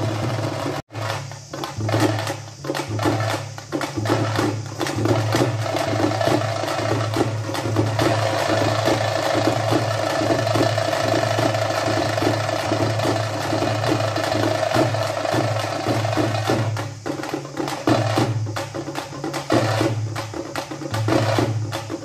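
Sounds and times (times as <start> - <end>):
music with percussive beat: 0.0 - 22.0.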